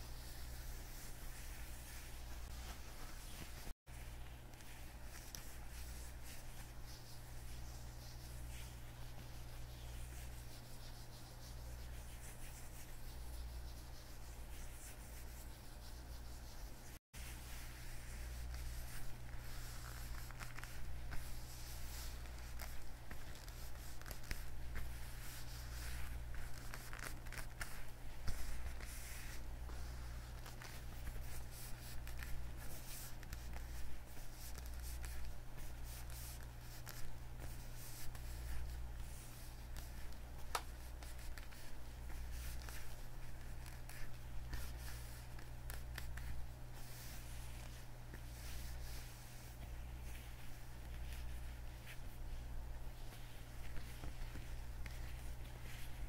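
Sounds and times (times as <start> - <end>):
leather gloves rubbing and creaking: 0.0 - 56.0.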